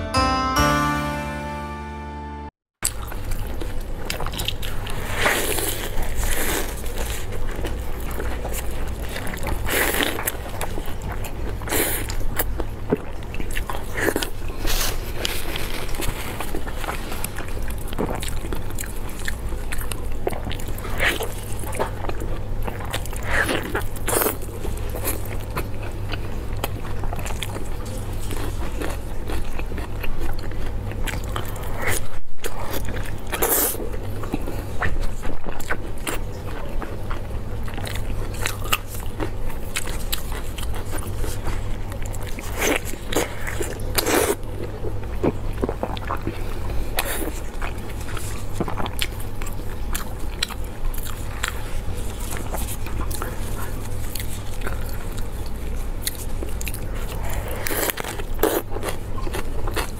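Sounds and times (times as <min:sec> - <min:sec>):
wet biting and chewing: 0:02.9 - 0:59.9.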